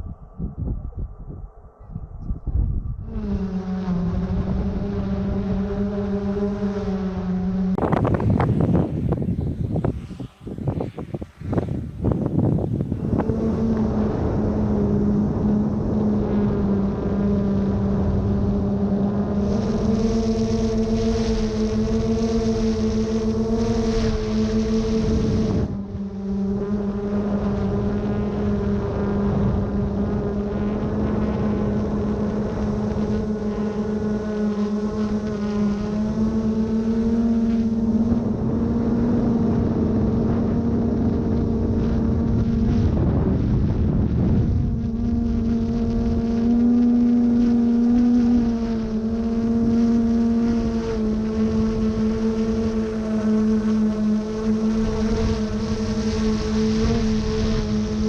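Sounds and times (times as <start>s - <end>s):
wind buffeting microphone: 0.0s - 58.0s
motor humming: 2.8s - 58.0s.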